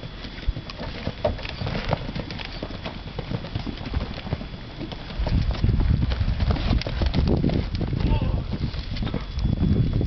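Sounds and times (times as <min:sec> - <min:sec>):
horse hooves galloping on dirt: 0:00.0 - 0:10.0.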